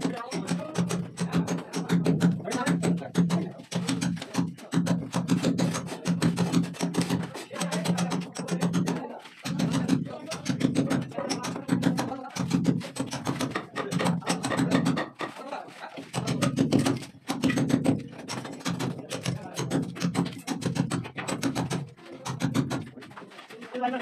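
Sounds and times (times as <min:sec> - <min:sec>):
hammer striking chisel: 0:00.0 - 0:15.4, 0:16.0 - 0:23.0
brick and mortar chipping: 0:00.0 - 0:24.0.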